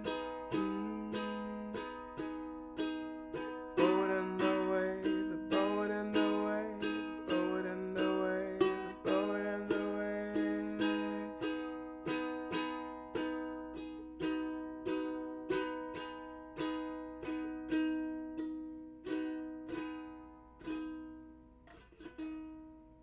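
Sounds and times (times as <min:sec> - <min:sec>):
ukulele strumming: 0:00.0 - 0:23.0.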